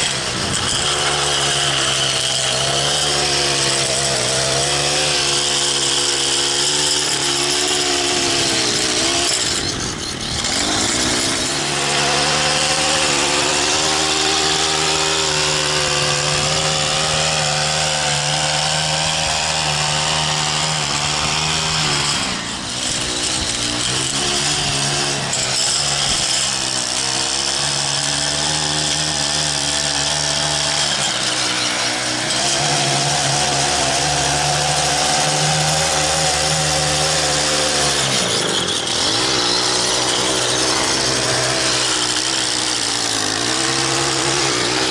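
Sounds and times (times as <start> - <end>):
blade cutting grass: 0.0 - 44.9
edger engine running: 0.0 - 44.9.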